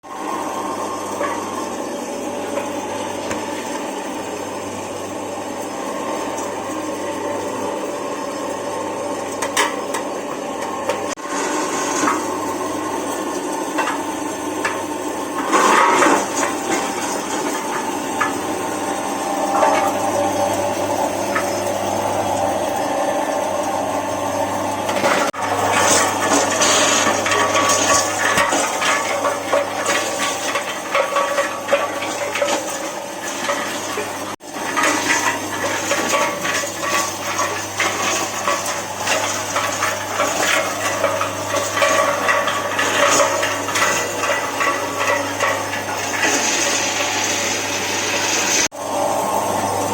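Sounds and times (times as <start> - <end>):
machine humming: 0.0 - 49.9.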